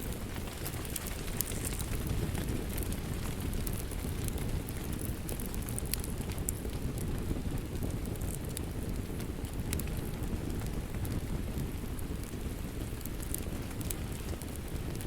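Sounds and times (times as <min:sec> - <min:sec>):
fire crackling and popping: 0:00.0 - 0:15.0
steady rain: 0:00.0 - 0:15.0.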